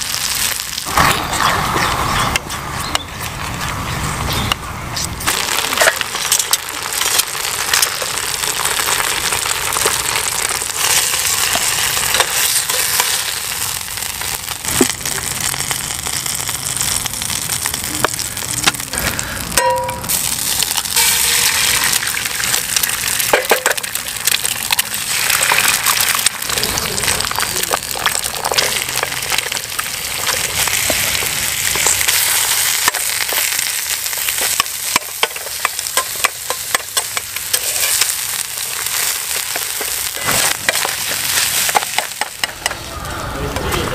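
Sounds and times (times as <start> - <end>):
food sizzling in a skillet: 0.0 - 1.1, 5.2 - 42.5.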